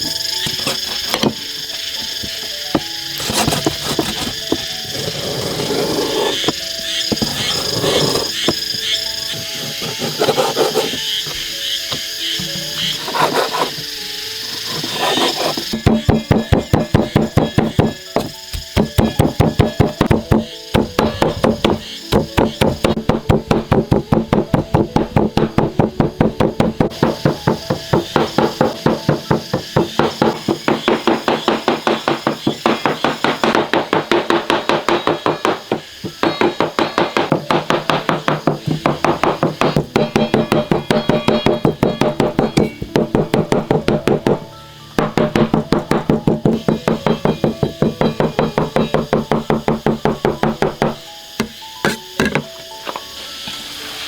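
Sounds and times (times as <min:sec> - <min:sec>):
cleaver chopping on wooden board: 0:02.8 - 0:11.0, 0:14.7 - 0:44.4, 0:45.0 - 0:52.5.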